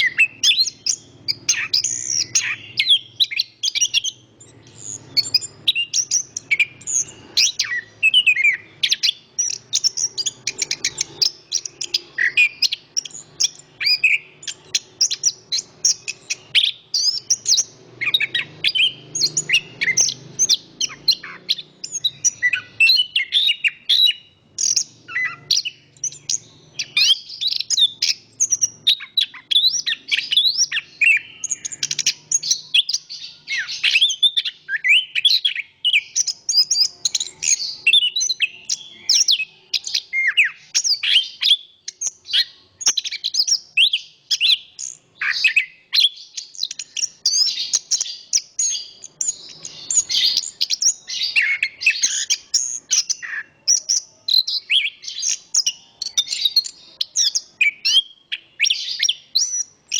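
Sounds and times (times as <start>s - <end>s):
thrush chirping and twittering: 0.0s - 59.9s.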